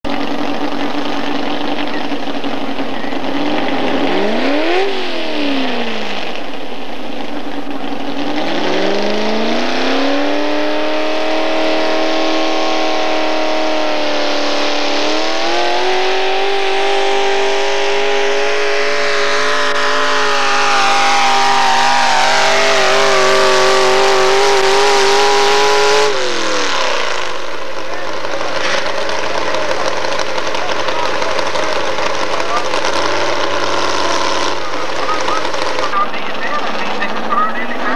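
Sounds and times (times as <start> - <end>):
truck engine at full throttle: 0.0 - 37.9.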